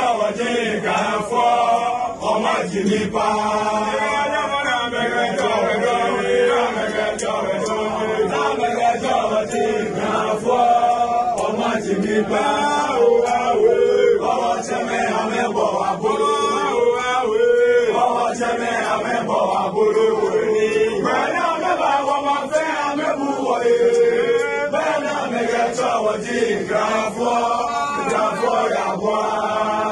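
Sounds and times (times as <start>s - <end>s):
men chanting together: 0.0s - 29.9s.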